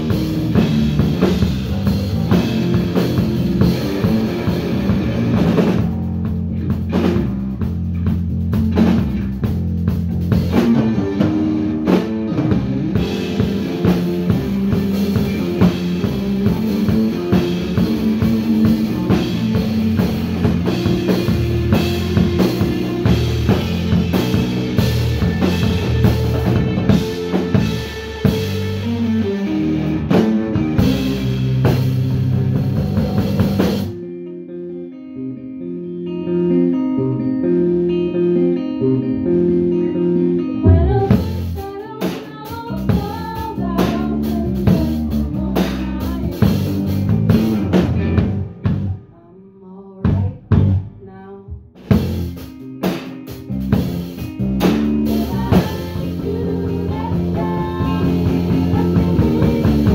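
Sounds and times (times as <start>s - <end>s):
drum kit: 0.0s - 34.4s, 39.1s - 49.2s, 50.1s - 59.9s
electric guitar: 0.0s - 49.3s, 50.0s - 59.9s
electric bass: 0.0s - 59.9s.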